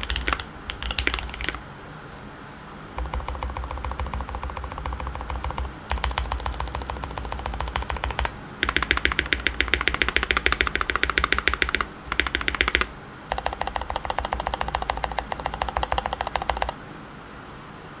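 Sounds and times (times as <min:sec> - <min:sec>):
mechanical keyboard typing: 0:00.0 - 0:01.6, 0:03.0 - 0:16.8.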